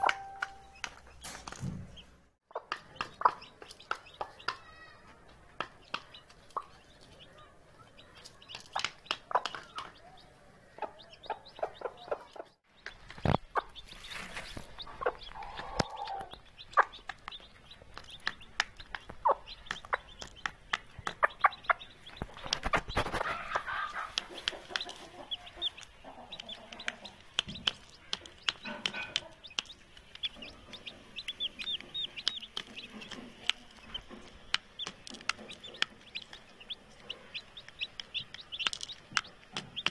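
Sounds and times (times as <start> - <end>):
beaks tapping on a plate: 0.0 - 1.6, 2.5 - 10.2, 14.5 - 39.9
chicks peeping: 0.0 - 39.9
hen clucking: 2.0 - 39.9.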